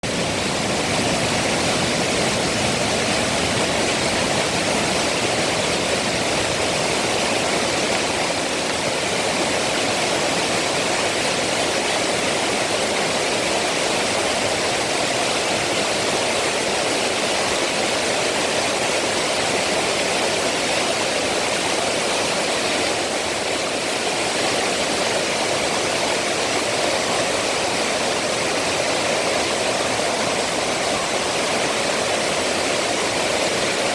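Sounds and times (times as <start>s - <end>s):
waterfall rushing over rock: 0.0s - 33.9s.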